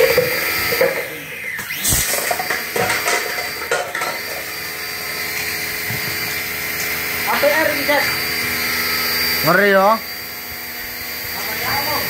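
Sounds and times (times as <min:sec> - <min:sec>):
pressure washer motor whine: 0:00.0 - 0:12.0.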